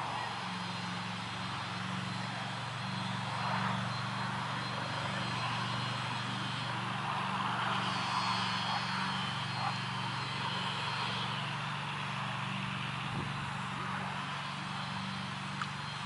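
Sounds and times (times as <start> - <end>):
low drone: 0.0 - 16.0.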